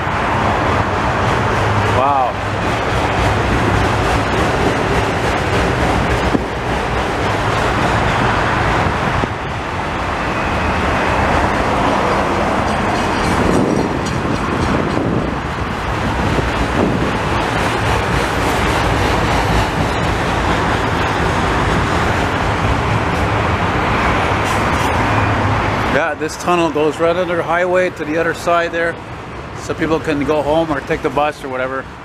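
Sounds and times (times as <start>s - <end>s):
train wheels on rail: 0.0s - 26.0s.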